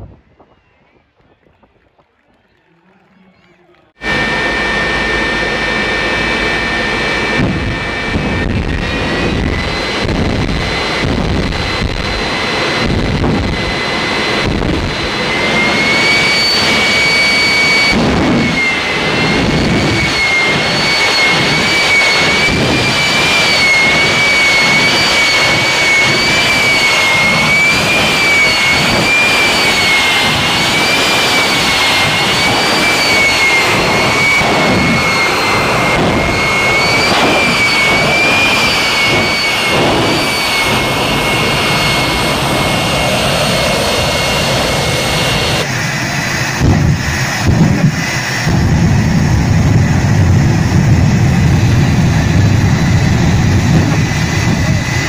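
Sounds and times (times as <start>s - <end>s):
jet engine rush with whine: 0.0s - 55.0s.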